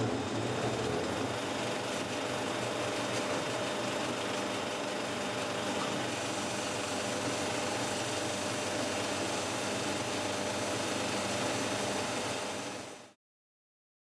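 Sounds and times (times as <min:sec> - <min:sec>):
film projectors running: 0:00.0 - 0:12.8.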